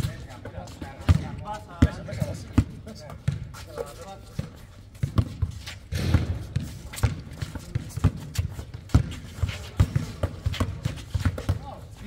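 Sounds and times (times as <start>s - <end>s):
players' footsteps: 0.0s - 12.0s
basketball bouncing on hard court: 1.0s - 3.4s, 4.4s - 11.8s.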